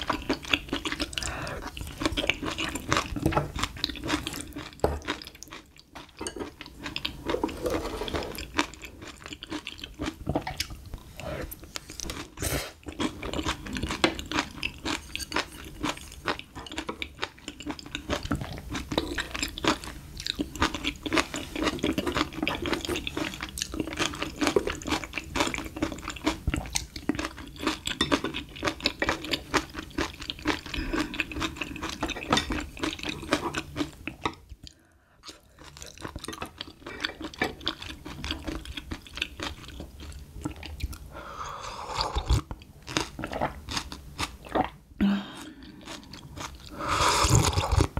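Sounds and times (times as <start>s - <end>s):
close chewing with mouth clicks: 0.0s - 7.2s, 8.3s - 41.1s, 45.4s - 47.9s.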